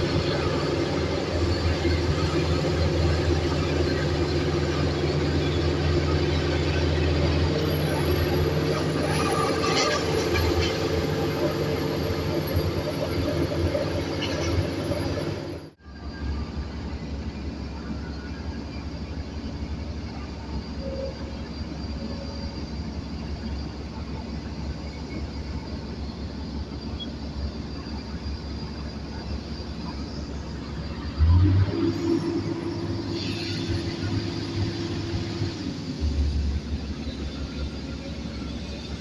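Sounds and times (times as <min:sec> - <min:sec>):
diesel engines of earthmoving machines: 0:00.0 - 0:39.0.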